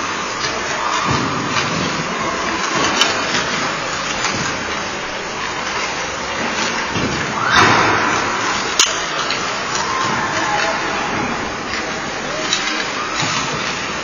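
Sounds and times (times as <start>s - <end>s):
hockey sticks and pucks clicking: 0.0s - 7.5s, 8.2s - 14.0s.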